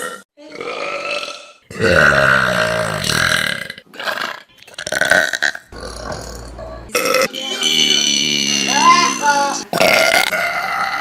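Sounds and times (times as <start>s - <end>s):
person burping: 0.0s - 8.9s, 9.5s - 11.0s.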